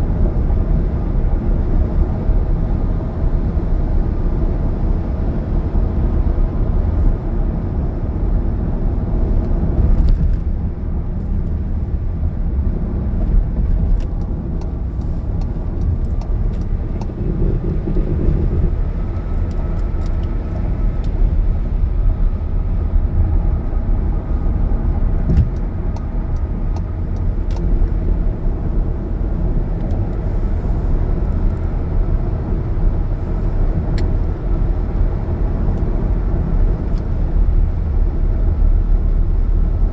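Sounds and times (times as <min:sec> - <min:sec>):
car engine at highway speed: 0:00.0 - 0:39.9.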